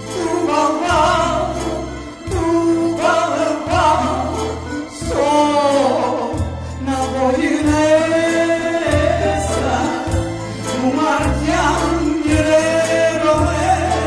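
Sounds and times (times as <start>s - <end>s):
low bass accompaniment: 0.0s - 14.0s.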